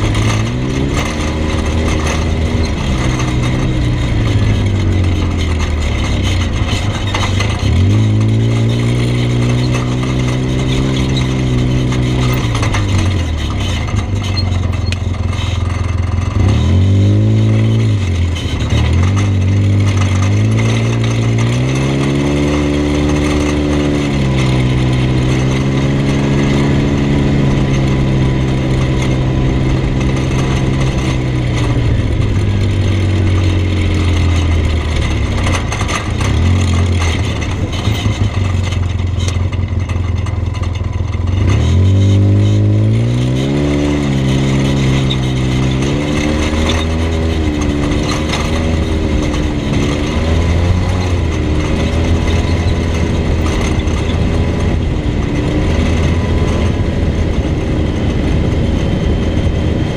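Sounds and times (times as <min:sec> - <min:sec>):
vehicle engine running: 0:00.0 - 0:59.9
wind and road noise: 0:00.0 - 0:59.9.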